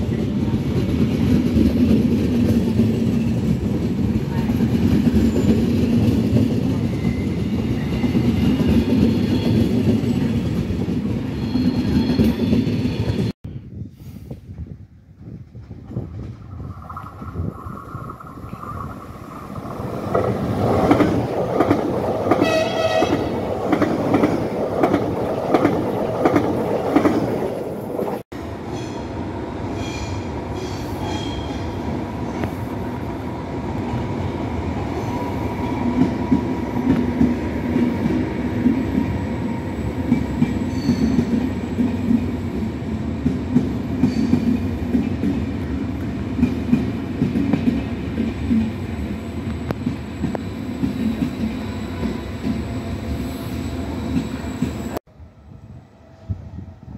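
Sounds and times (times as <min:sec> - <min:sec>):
train rumbling slowly: 0:00.0 - 0:56.9.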